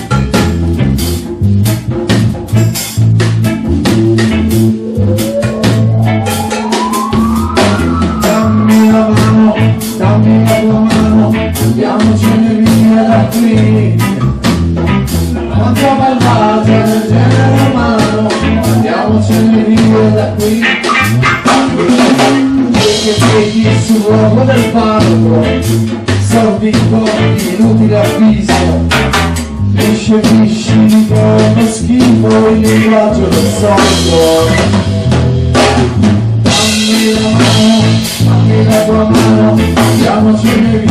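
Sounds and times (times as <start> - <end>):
drum kit beat: 0.0 - 40.9
electric bass line: 0.0 - 40.9
guitar: 0.0 - 40.9
man singing: 4.2 - 14.5, 15.3 - 29.0, 29.7 - 35.0, 36.5 - 40.9.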